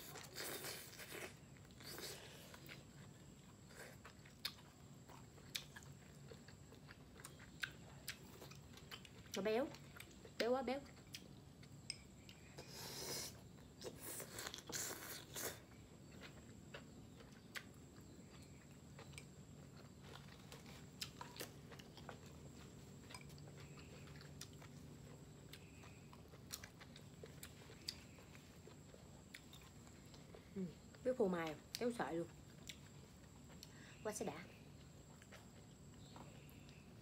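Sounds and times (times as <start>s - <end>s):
chewing and biting food: 0.0s - 34.0s, 34.6s - 37.0s
faint steady hum: 0.0s - 37.0s.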